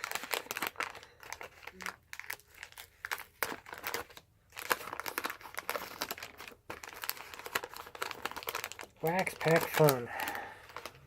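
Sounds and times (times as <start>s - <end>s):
cards being handled: 0.0s - 11.0s
wrapper crinkling: 0.0s - 11.0s.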